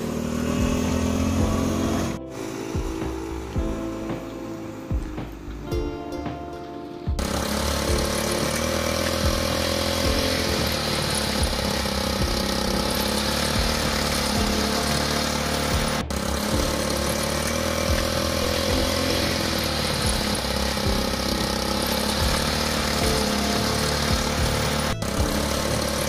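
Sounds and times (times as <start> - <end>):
small engine running: 0.0 - 5.7, 7.2 - 26.0.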